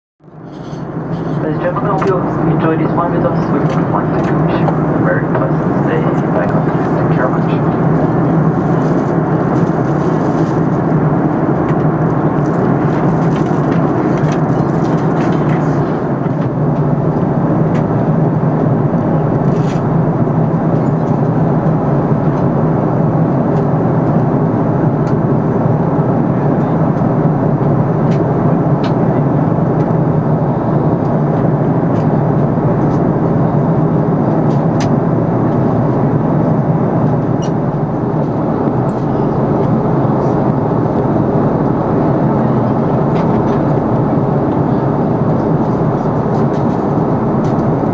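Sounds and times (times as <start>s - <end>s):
jet engines droning: 0.2s - 47.9s
low hum: 0.2s - 47.9s
airflow rushing over fuselage: 0.3s - 47.9s.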